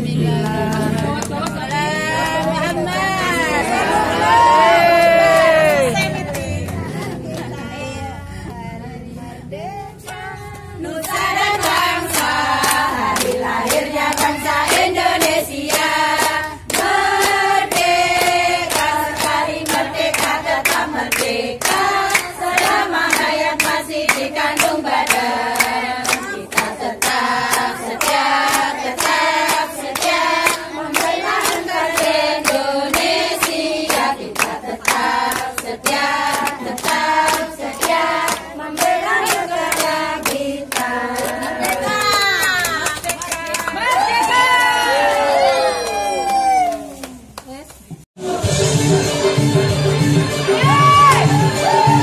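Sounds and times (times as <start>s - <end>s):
women singing in unison: 0.0s - 44.6s, 50.0s - 52.0s
hands clapping in rhythm: 0.2s - 7.6s, 10.0s - 45.2s.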